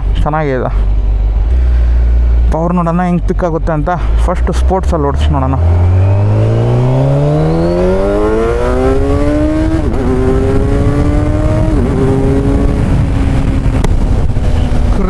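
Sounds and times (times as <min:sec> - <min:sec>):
motorcycle engine accelerating: 0:00.8 - 0:15.0.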